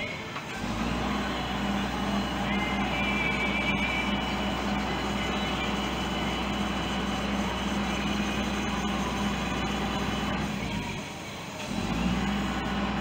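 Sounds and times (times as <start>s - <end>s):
fire truck engine idling: 0.0s - 13.0s.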